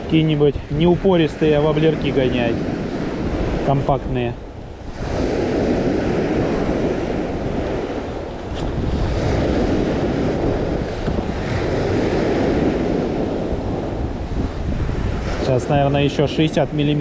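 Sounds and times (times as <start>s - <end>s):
sea surf washing onto shore: 0.0s - 17.0s
wind rumbling on microphone: 0.0s - 17.0s.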